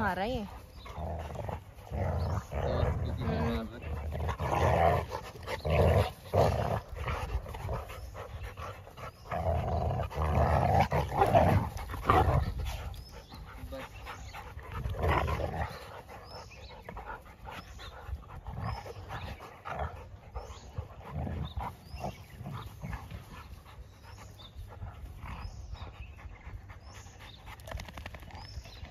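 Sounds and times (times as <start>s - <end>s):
dog panting: 0.0s - 28.7s
dogs growling: 0.0s - 28.9s.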